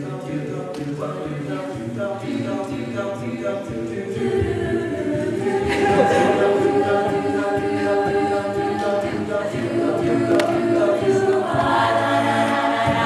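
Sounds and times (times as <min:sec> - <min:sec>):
a cappella group singing chords: 0:00.0 - 0:13.0.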